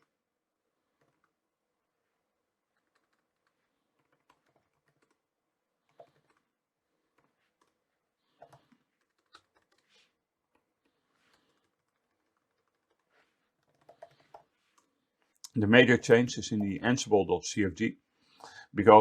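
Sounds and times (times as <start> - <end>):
faint typing on keyboard: 0.0 - 1.5, 2.6 - 17.3.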